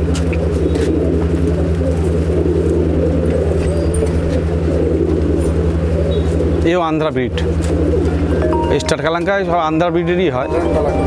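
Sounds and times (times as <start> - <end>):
low pulsing mechanical hum: 0.0 - 10.9
pigeons cooing: 0.0 - 11.0.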